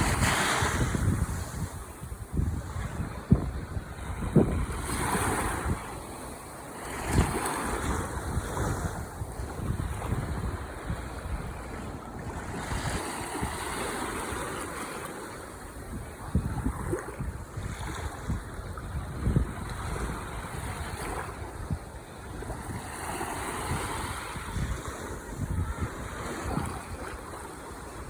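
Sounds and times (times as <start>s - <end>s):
wind buffeting microphone: 0.0s - 14.8s, 15.6s - 28.0s
ocean waves washing onto shore: 0.0s - 28.0s.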